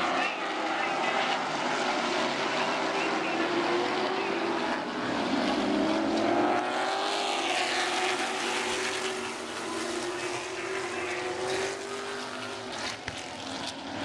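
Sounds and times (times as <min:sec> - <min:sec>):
race car engines at speed: 0:00.0 - 0:14.0.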